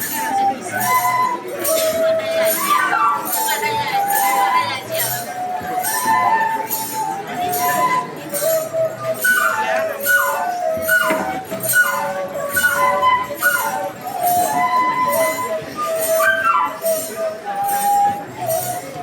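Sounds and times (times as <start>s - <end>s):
jingle bells shaken: 0.0s - 19.0s
wind instrument melody with slides: 0.0s - 19.0s.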